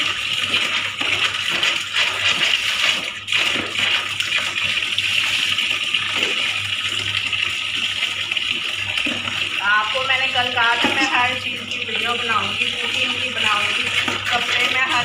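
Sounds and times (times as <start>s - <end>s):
tap water running into tub: 0.0s - 15.0s
water splashing: 0.0s - 15.0s.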